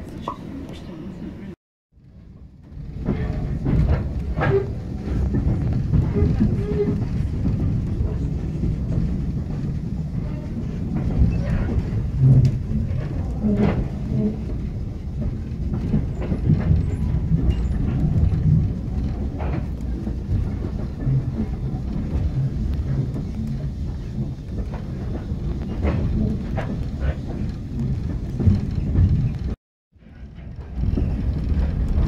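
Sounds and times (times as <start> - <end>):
train carriage rumbling on track: 0.0 - 32.0.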